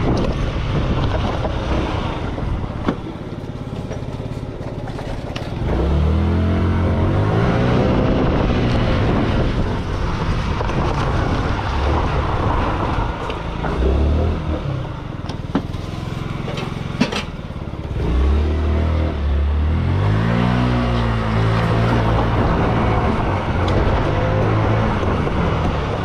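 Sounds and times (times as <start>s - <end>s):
scooter engine idling and revving: 0.0s - 26.0s.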